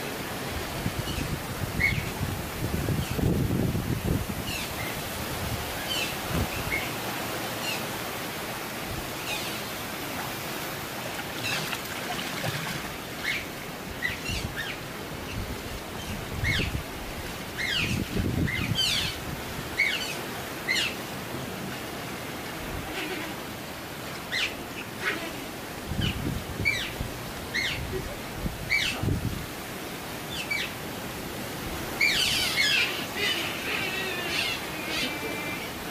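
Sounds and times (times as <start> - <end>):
pool water washing: 0.0 - 2.8, 3.9 - 35.9.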